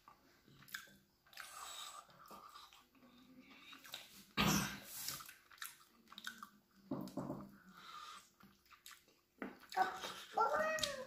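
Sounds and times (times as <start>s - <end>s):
chewing and mouth noises: 0.0s - 4.3s, 5.0s - 6.9s, 7.7s - 11.0s.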